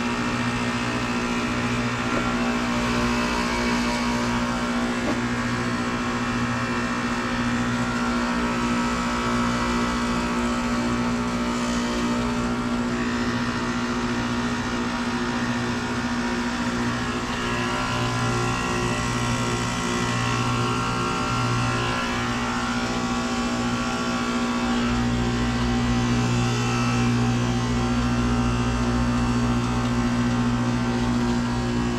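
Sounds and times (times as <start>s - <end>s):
heat pump humming: 0.0s - 31.9s.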